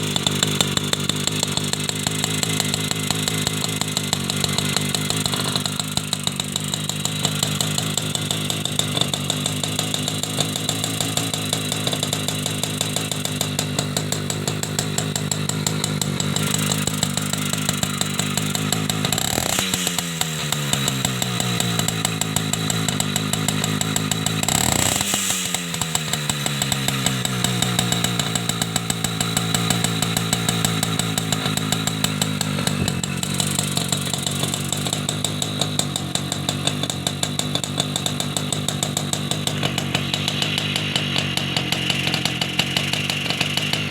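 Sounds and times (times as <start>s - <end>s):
small two-stroke engine idling: 0.0s - 43.9s.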